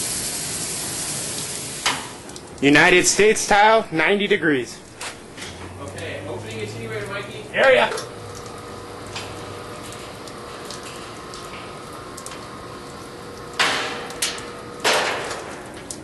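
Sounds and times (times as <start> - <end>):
steady hum: 2.2 - 16.0.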